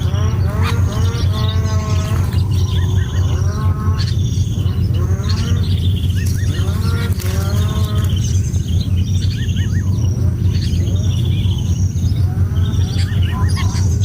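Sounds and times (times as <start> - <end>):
bird calls and chirps: 0.0 - 14.0
loud steady low hum: 0.0 - 14.0.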